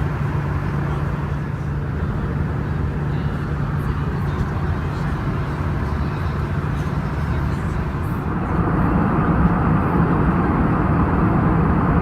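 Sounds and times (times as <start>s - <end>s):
jet engine hum: 0.0s - 12.0s.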